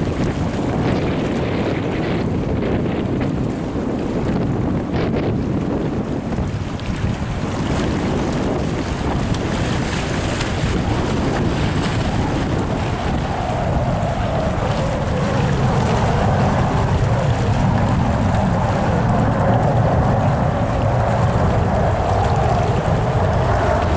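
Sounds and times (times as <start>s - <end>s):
jet engines rumbling: 0.0s - 23.9s
wind buffeting microphone: 0.0s - 23.9s.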